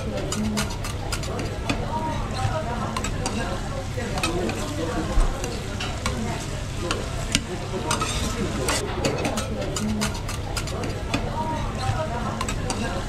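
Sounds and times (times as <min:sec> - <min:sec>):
metal spatulas scraping and tapping: 0:00.0 - 0:03.5, 0:04.1 - 0:13.0
batter sizzling on griddle: 0:00.0 - 0:13.0.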